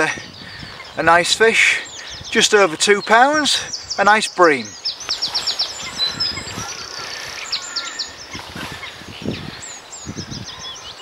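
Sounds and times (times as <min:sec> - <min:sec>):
bird trill: 0:00.0 - 0:11.0
small birds chirping: 0:00.0 - 0:11.0.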